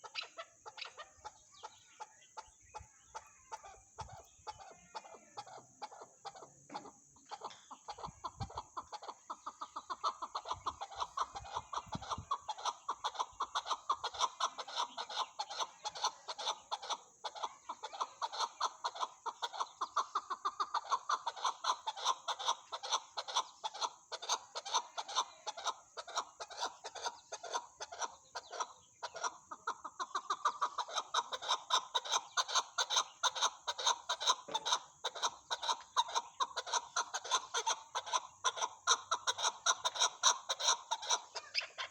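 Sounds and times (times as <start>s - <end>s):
partridge clucking calls: 0.0s - 41.9s.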